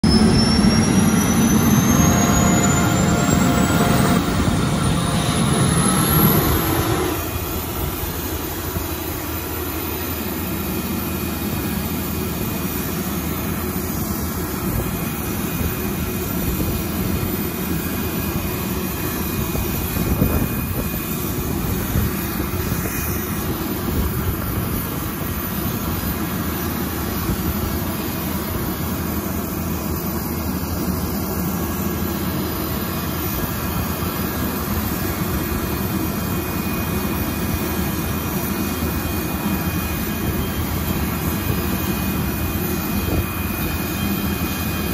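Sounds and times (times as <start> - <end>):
ground power equipment drone: 0.0 - 44.9
high whine: 0.0 - 44.9.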